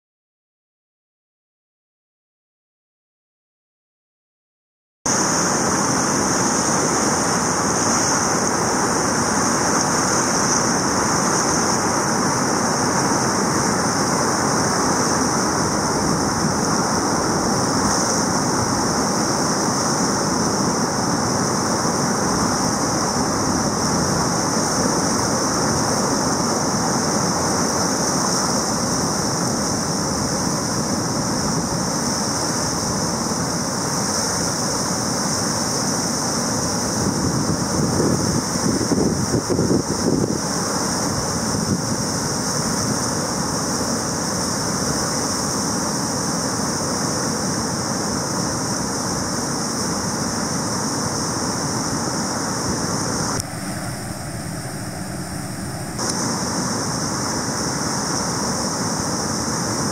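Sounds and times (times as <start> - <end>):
river rapids roaring: 5.1 - 38.9, 40.4 - 59.9.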